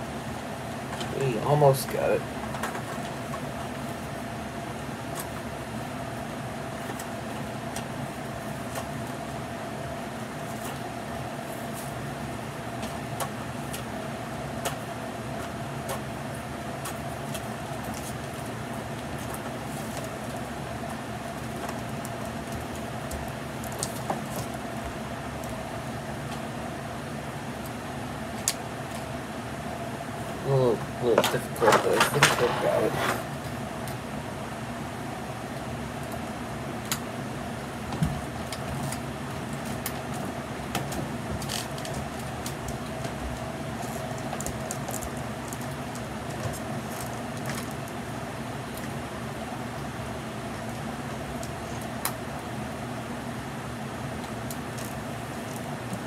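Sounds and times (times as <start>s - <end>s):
room hum: 0.0s - 56.0s.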